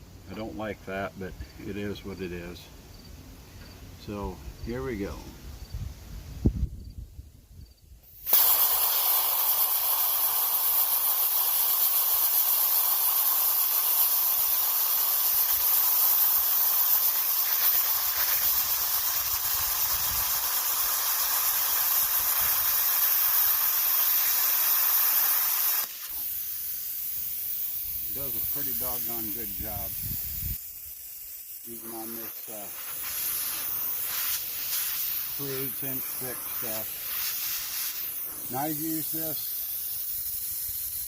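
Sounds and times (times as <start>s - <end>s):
plasma cutter hissing: 8.0s - 41.0s.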